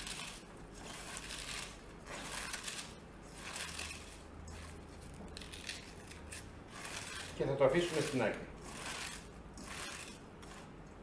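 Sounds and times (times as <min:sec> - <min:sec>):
cabbage crunching in a bowl: 0:00.0 - 0:10.7.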